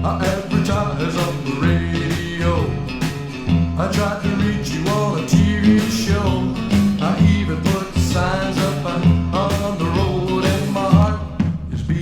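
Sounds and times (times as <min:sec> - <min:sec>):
bass guitar: 0:00.0 - 0:12.0
drum kit: 0:00.0 - 0:12.0
electric guitar: 0:00.0 - 0:12.0
person singing: 0:00.0 - 0:12.0.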